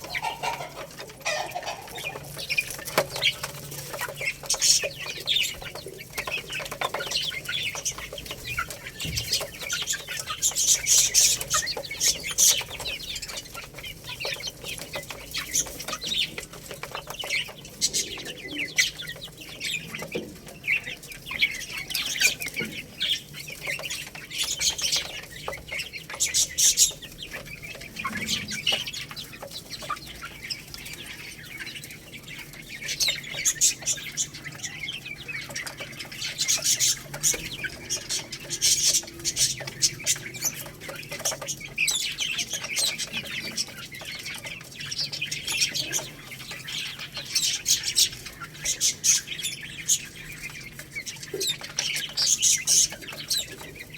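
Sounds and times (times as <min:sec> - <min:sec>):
chickens pecking and scratching: 0:00.0 - 0:53.9.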